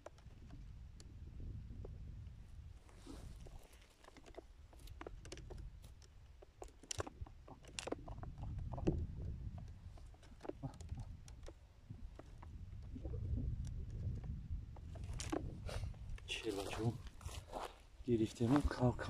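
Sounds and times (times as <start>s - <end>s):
faint light clicks and crackles: 0.0s - 1.1s, 1.8s - 17.8s
low wind rumble on microphone: 0.0s - 3.8s, 4.5s - 6.4s, 7.0s - 19.0s.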